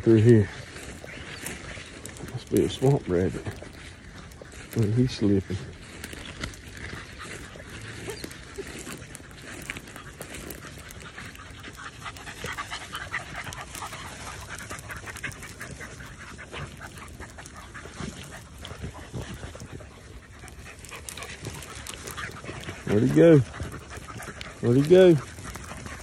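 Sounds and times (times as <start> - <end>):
dogs panting: 0.0 - 26.0
dry grass rustling: 0.0 - 26.0.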